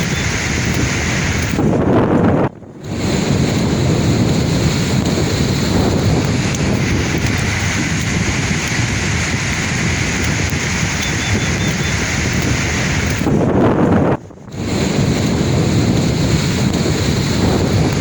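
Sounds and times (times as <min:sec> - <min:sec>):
sea waves washing in: 0:00.0 - 0:18.0
wind rumbling on microphone: 0:00.0 - 0:18.0.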